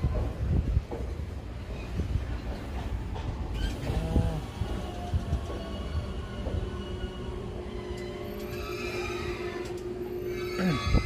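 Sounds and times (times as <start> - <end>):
steady train hum: 0.0 - 11.0
train wheels rumbling: 0.0 - 11.0.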